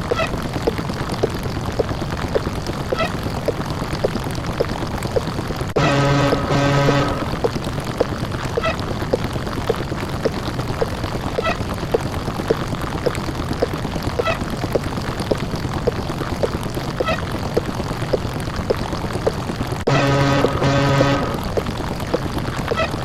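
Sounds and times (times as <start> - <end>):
regular ticks: 0.0 - 5.3, 6.2 - 23.0.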